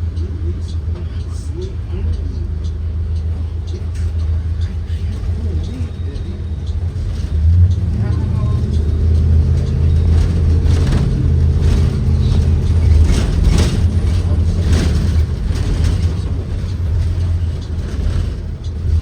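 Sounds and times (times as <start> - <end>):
bus engine droning: 0.0 - 19.0
knocks and rattles: 2.0 - 19.0.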